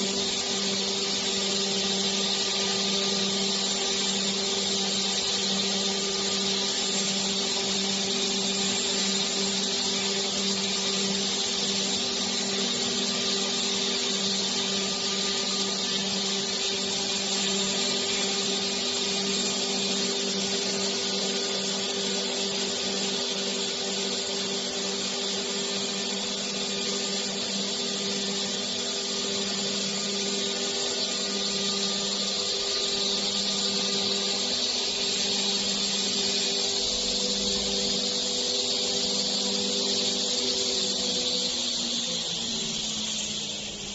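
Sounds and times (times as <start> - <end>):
high hiss of spinning saw: 0.0 - 43.9
milling machine motor hum: 0.0 - 43.9.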